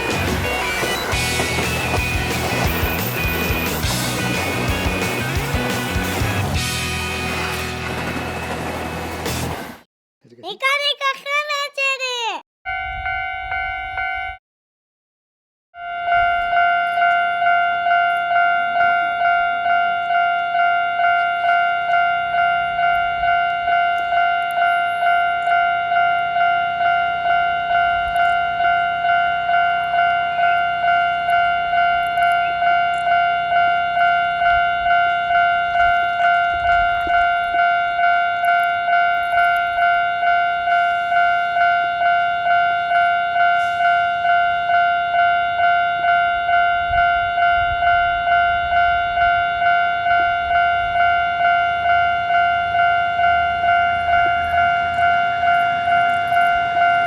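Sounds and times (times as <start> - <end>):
level-crossing warning bell ringing: 0.0 - 8.8, 12.7 - 14.4, 15.8 - 57.0.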